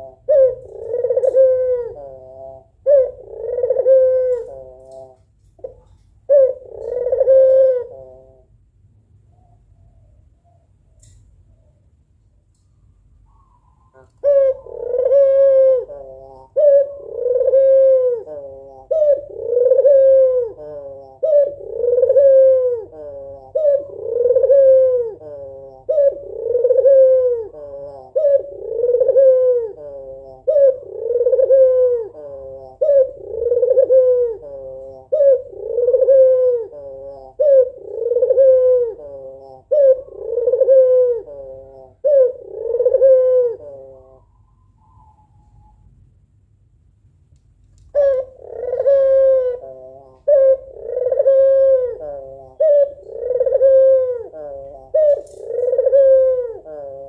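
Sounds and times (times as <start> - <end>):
dove cooing: 0.0 - 8.6, 13.3 - 45.8, 47.9 - 57.0.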